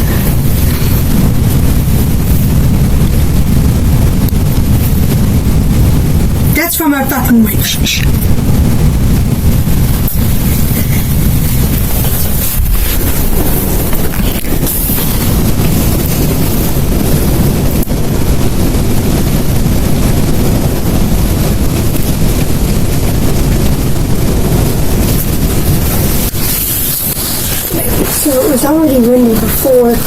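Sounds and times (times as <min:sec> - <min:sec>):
heavy rain: 0:00.0 - 0:30.0
wind buffeting microphone: 0:00.0 - 0:30.0.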